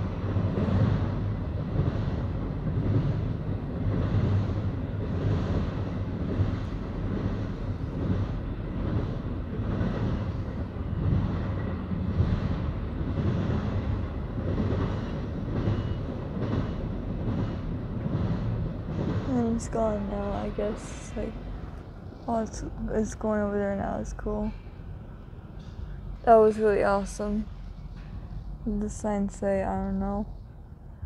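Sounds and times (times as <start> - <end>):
freight train rumble: 0.0 - 31.0
rhythmic clatter of train cars: 0.0 - 31.0.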